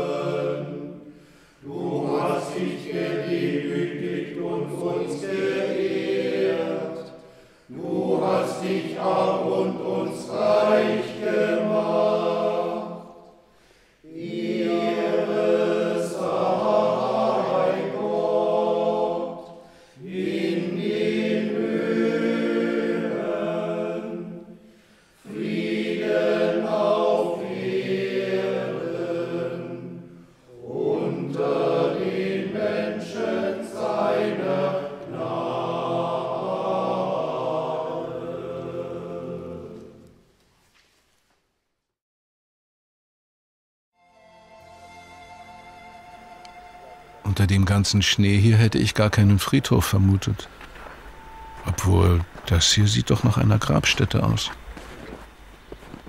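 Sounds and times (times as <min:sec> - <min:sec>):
choir singing a slow chant: 0:00.0 - 0:40.3, 0:44.1 - 0:56.0.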